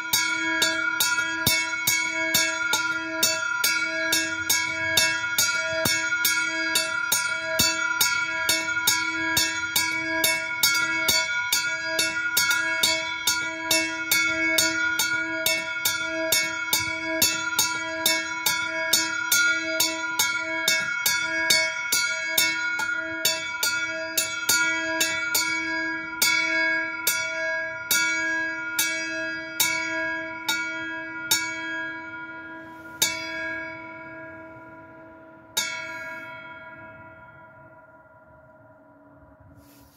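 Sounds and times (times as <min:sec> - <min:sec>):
small bell ringing: 0:00.0 - 0:34.8.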